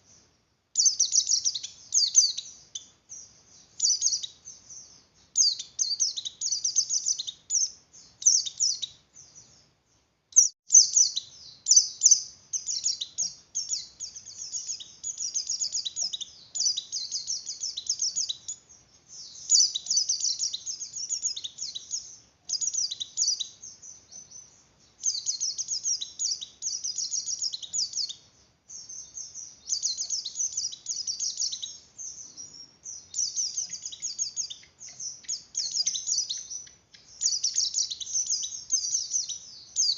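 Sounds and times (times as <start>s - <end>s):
bird singing high chattering phrases: 0.8s - 9.7s, 10.4s - 39.9s.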